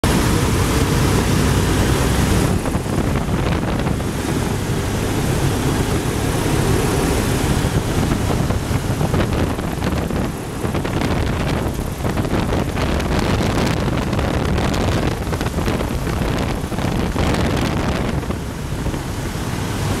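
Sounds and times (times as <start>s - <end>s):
light aircraft engine and propeller: 0.0s - 20.0s
wind noise: 0.0s - 20.0s.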